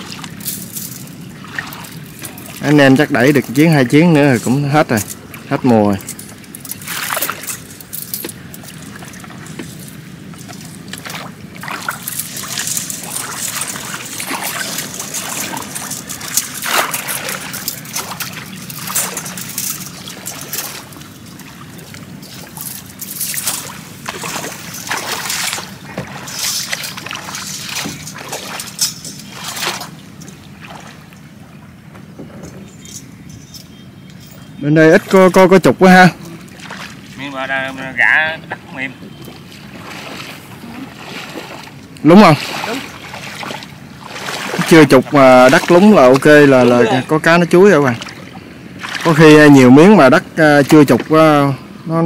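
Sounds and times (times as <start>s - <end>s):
shallow water splashing: 0.0s - 31.9s, 34.8s - 51.8s.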